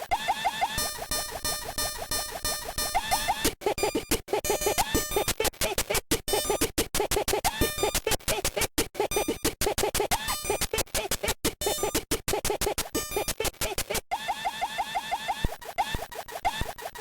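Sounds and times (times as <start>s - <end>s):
squeaky repeated pattern: 0.0s - 17.0s
record scratch effects: 0.2s - 14.0s.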